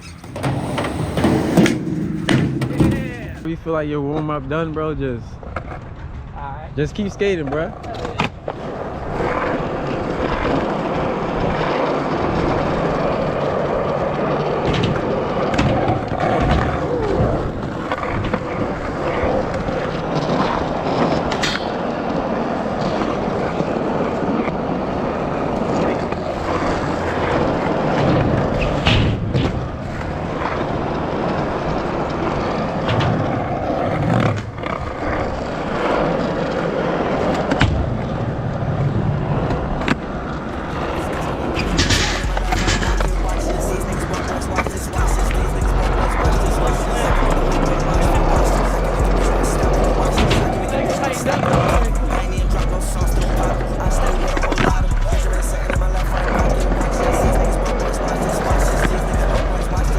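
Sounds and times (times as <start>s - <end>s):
skateboard clacks: 0.0s - 3.5s, 7.4s - 59.9s
skateboard wheels rolling on pavement: 0.0s - 59.9s.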